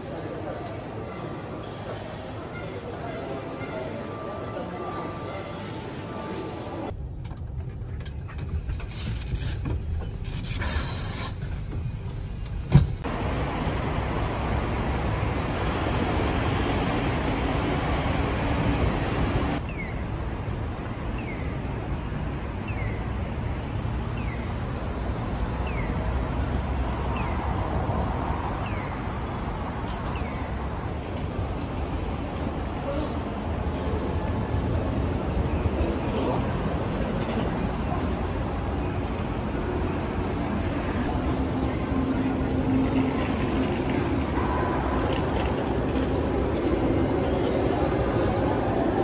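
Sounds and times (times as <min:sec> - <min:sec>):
road traffic hum: 0:00.0 - 0:49.0.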